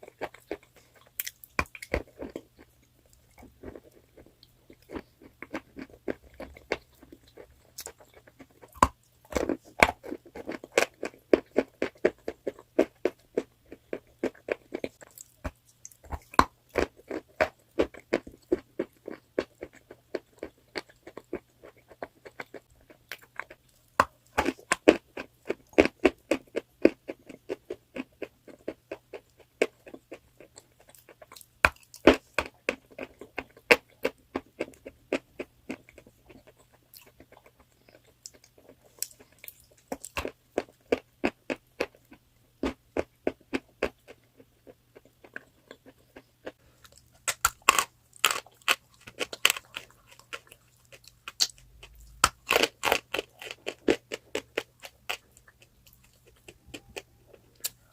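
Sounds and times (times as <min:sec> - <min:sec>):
person chewing crunchy chalk: 0:00.0 - 0:57.9.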